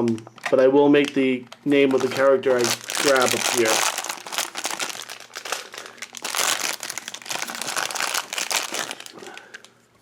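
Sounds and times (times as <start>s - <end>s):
plastic wrapper crinkling: 0.0s - 9.8s.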